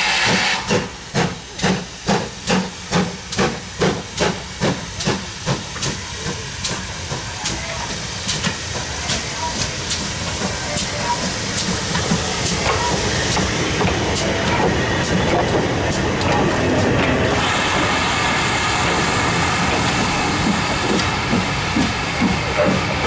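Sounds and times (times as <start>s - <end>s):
steam train rolling past: 0.0s - 23.0s.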